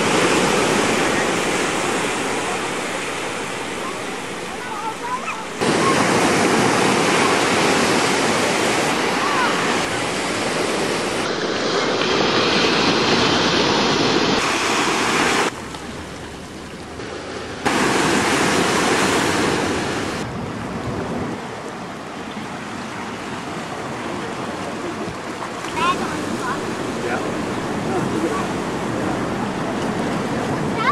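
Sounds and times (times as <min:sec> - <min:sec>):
surf breaking on beach: 0:00.0 - 0:21.9, 0:22.6 - 0:30.9.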